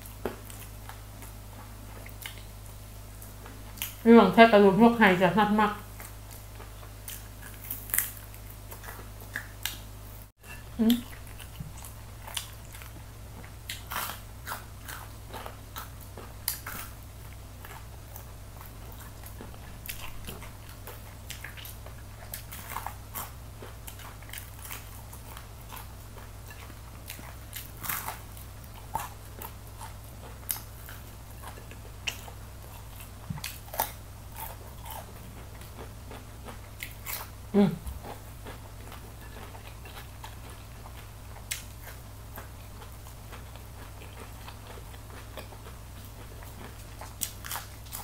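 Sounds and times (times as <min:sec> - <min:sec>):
steady low hum: 0:00.0 - 0:48.0
crunching crispy chicken: 0:06.0 - 0:09.9, 0:11.0 - 0:48.0.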